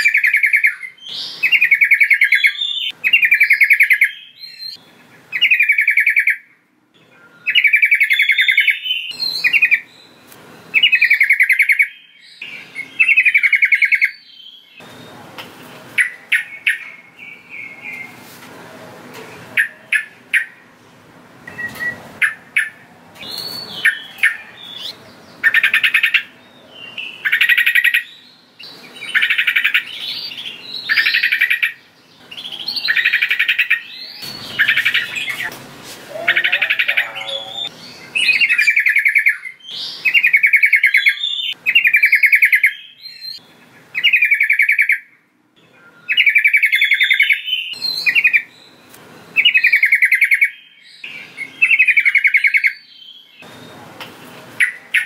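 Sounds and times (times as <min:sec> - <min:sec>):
bulbul singing: 0:00.0 - 0:15.2, 0:21.4 - 0:53.9.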